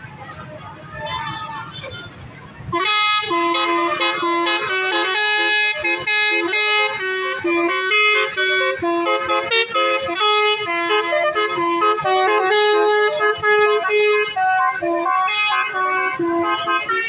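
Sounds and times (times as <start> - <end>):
bus horn playing a tune: 1.0 - 17.0.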